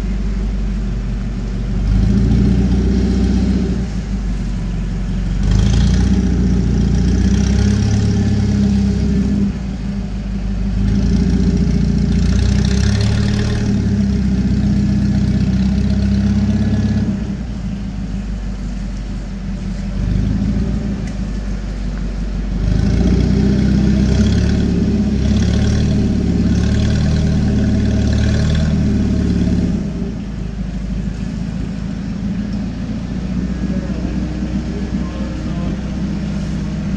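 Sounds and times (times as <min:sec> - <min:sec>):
forklift engine revving: 0:00.0 - 0:36.9.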